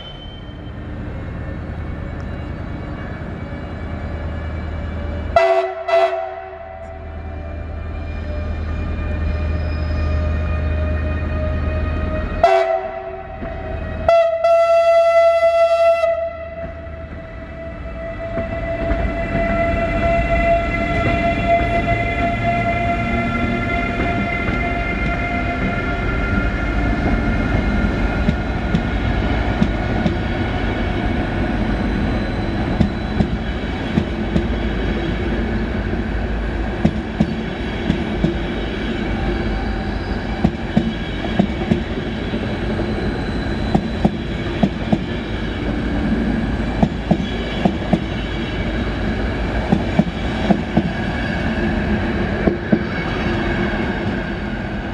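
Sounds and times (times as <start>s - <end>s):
electric locomotive whine: 0.0s - 54.9s
train coaches rumbling: 0.0s - 54.9s.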